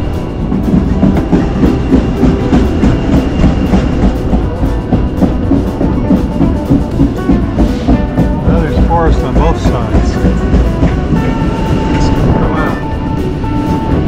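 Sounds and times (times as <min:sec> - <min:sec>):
music with percussive beat: 0:00.0 - 0:14.0
train rumble: 0:00.0 - 0:14.0.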